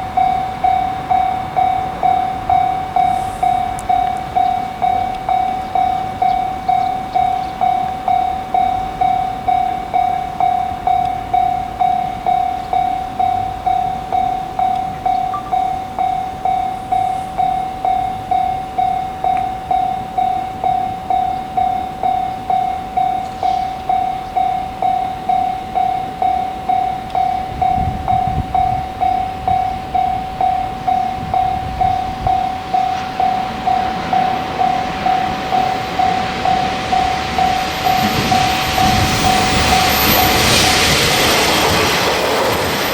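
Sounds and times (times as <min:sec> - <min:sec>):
level crossing alarm ringing: 0:00.0 - 0:42.9
train rumble: 0:00.0 - 0:42.9.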